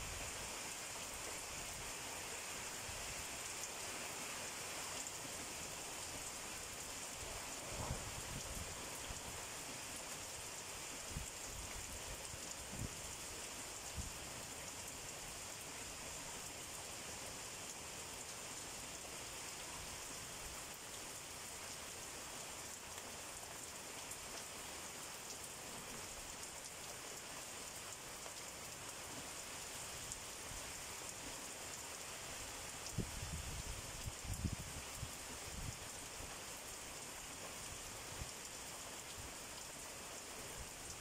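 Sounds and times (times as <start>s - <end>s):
heavy rain on leaves: 0.0s - 41.0s.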